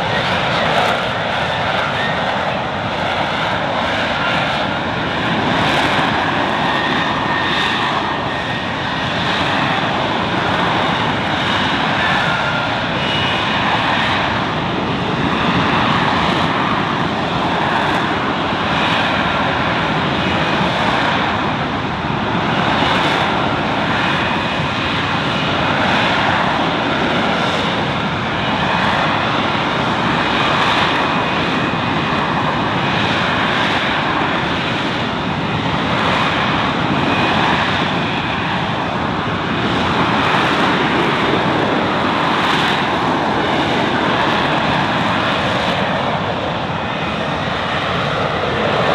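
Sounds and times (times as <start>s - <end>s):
jet engine roaring: 0.0s - 48.9s.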